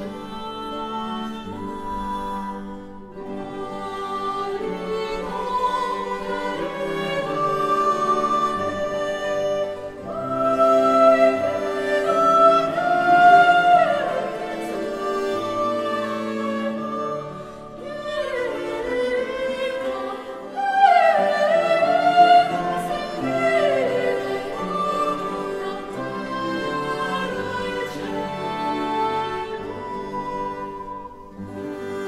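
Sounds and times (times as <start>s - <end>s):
operatic singing voice: 0.0s - 31.2s
strings playing: 0.0s - 32.0s.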